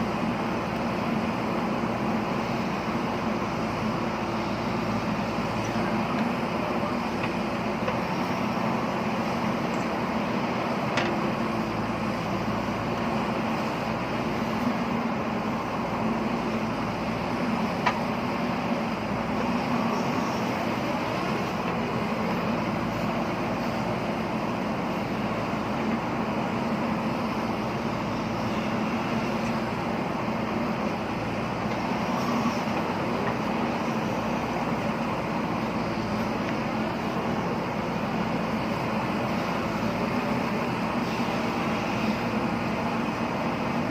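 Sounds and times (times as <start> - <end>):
diesel engine under load: 0.0 - 43.9.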